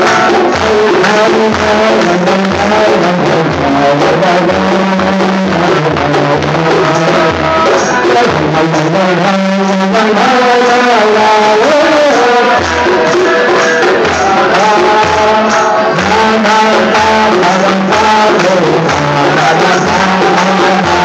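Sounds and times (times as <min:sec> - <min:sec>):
hand drum beat: 0:00.0 - 0:21.0
voices singing: 0:00.0 - 0:21.0.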